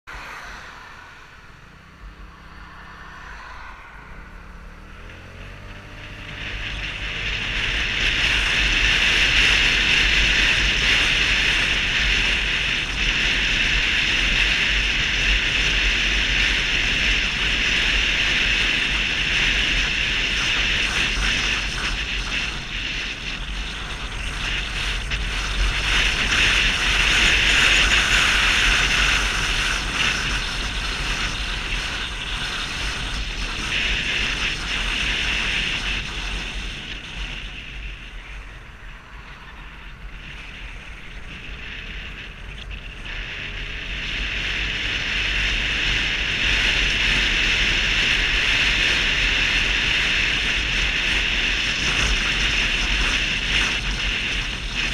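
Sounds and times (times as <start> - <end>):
road noise: 0.0 - 54.9
wind rush on microphone: 0.0 - 54.9.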